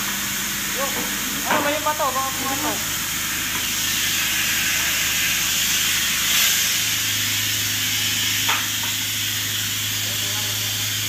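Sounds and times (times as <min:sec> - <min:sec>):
hose water hissing into drain: 0:00.0 - 0:11.0.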